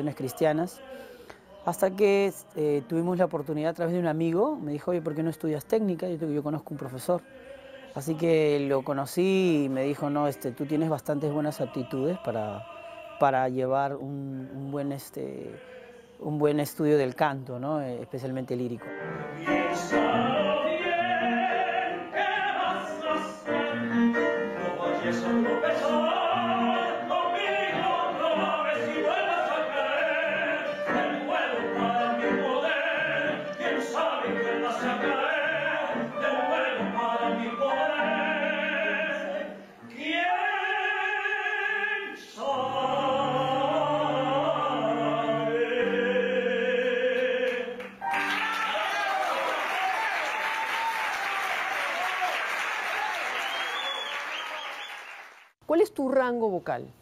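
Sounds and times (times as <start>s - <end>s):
man singing operatic style: 0.0s - 3.2s, 6.1s - 50.8s
piano: 0.0s - 54.2s.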